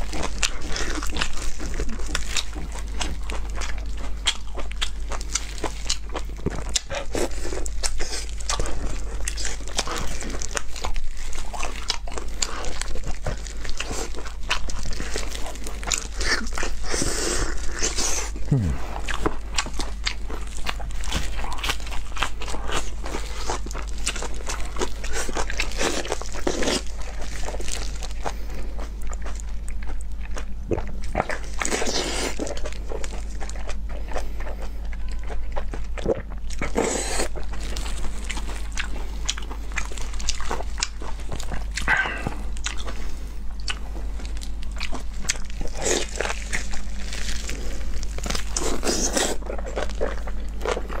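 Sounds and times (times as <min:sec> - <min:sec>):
wet chewing and biting: 0:00.0 - 0:51.0.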